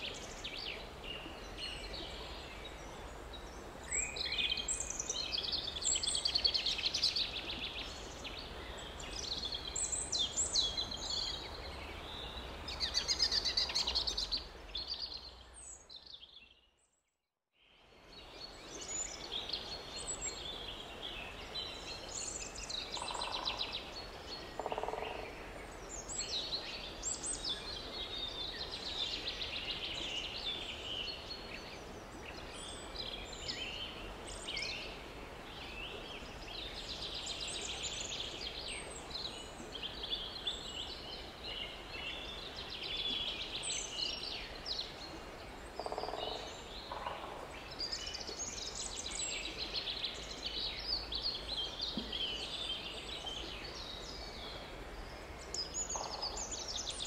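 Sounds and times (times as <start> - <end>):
faint steady background noise: 0.0 - 16.4, 17.6 - 57.0
songbirds singing and chirping: 0.0 - 16.9, 17.7 - 57.0.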